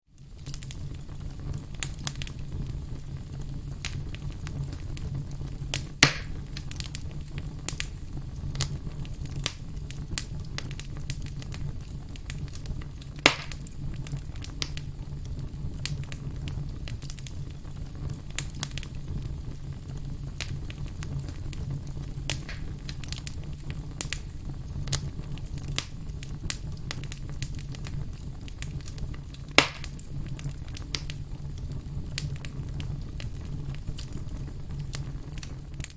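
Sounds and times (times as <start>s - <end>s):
firewood burning and crackling: 0.1s - 35.9s
loud fire pops: 0.2s - 35.9s.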